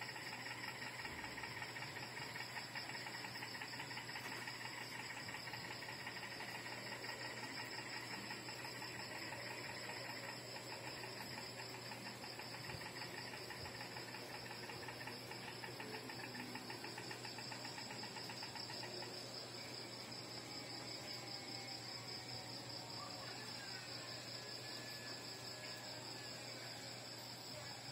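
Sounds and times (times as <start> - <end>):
insect trilling: 0.0 - 27.9.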